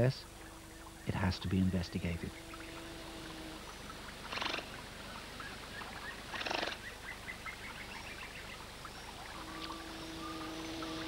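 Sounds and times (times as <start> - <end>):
otter rough pulsed calls: 0.0 - 11.0.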